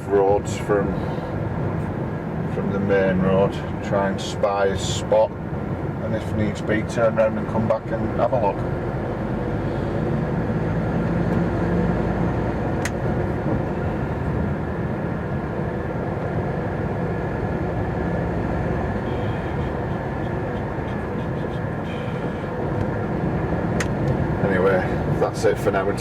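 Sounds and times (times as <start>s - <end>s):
lorry diesel engine drone: 0.0s - 26.0s
road noise: 0.0s - 26.0s.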